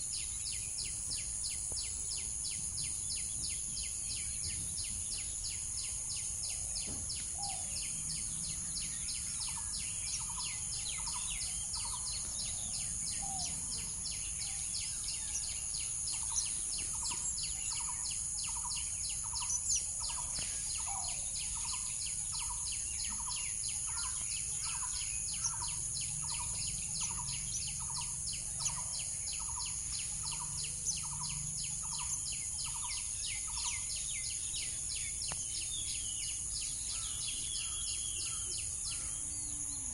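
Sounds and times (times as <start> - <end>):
insect high buzzing: 0.0 - 39.9.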